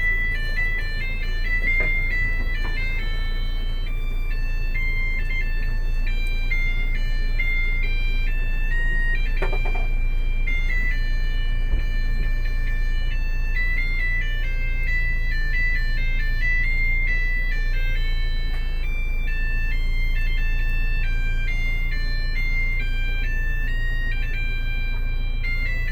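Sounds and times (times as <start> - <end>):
electronic tune of high beeps: 0.0 - 25.9
low rumble inside a car: 0.0 - 25.9.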